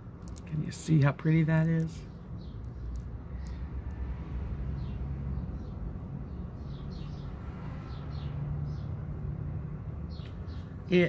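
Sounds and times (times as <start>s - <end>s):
birds chirping: 0.3s - 9.3s, 9.9s - 11.0s.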